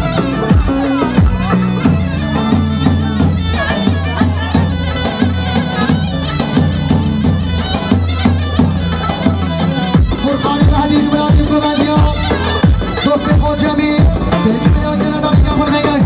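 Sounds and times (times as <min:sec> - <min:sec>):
folk dance band music: 0:00.0 - 0:16.0.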